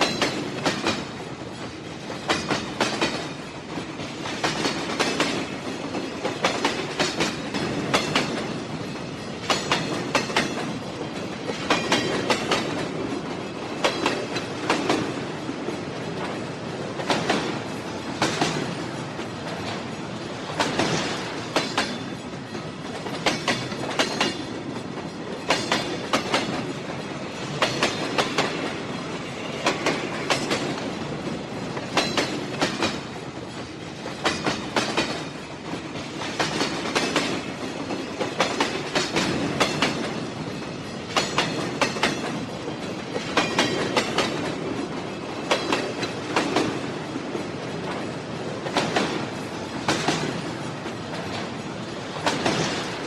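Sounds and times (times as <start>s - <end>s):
train rumbling on track: 0.0s - 53.0s
wheels clacking over rail joints: 0.0s - 53.0s.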